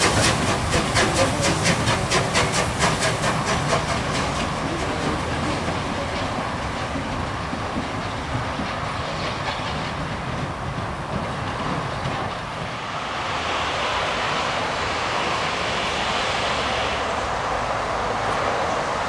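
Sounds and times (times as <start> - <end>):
steam locomotive exhaust rush: 0.0 - 19.0.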